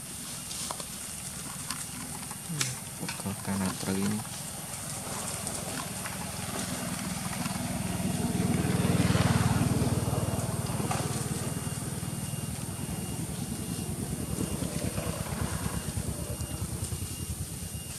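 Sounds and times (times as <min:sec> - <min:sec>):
passing vehicle engine drone: 0:03.3 - 0:17.9.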